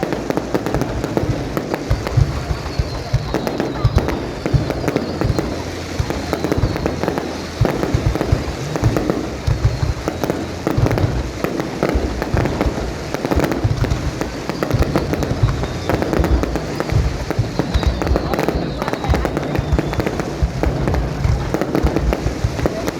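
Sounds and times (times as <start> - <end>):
fireworks bangs and booms: 0.0 - 22.9.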